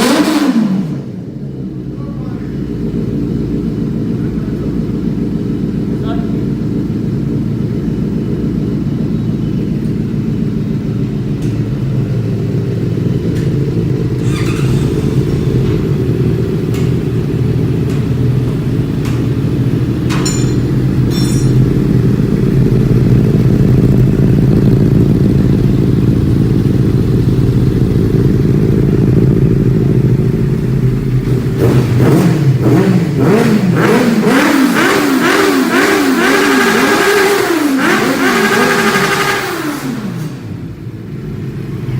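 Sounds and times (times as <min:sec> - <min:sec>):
motorcycle engine revving: 0:00.0 - 0:41.9
motorcycle engine idling: 0:00.1 - 0:41.9.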